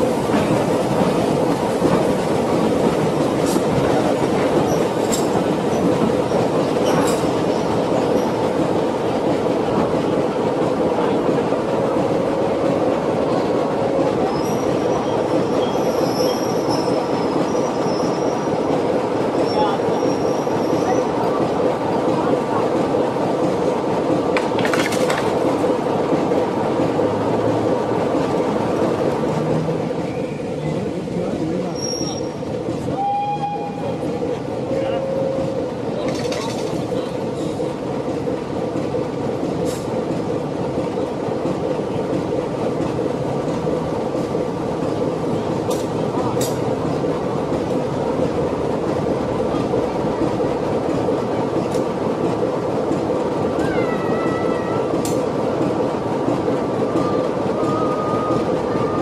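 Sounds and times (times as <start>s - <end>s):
train carriages clickety-clack: 0.0s - 59.0s.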